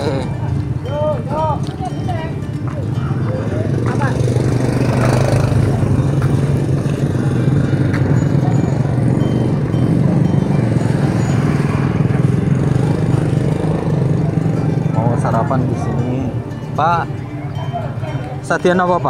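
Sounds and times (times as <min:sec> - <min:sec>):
faint chatter: 0:00.0 - 0:19.0
motorcycle engine running: 0:00.0 - 0:19.0
street market bustle: 0:00.0 - 0:19.0.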